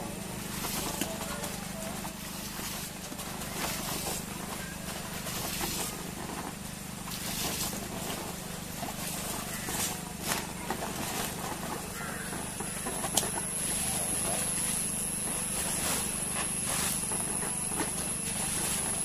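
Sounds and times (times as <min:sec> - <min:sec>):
low motor-like hum: 0:00.0 - 0:19.0.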